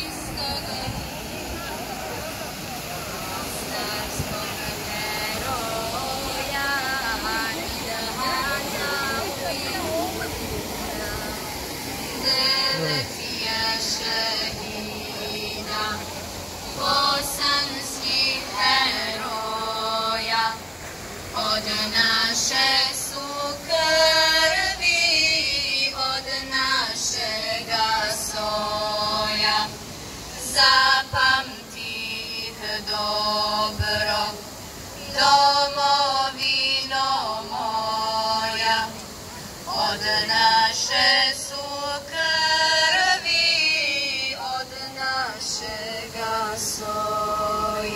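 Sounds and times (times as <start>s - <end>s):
person singing devotional song: 3.2s - 10.3s, 12.1s - 47.9s.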